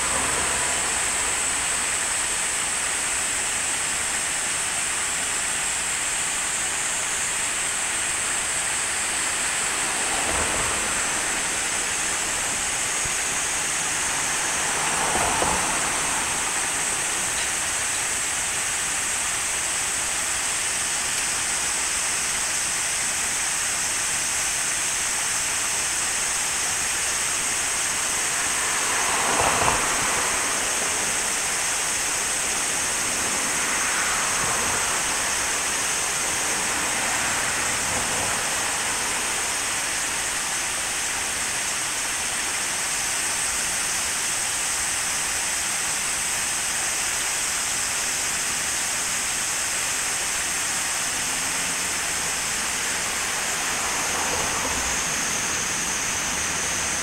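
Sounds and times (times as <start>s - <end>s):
river water pouring over weir: 0.0s - 57.0s.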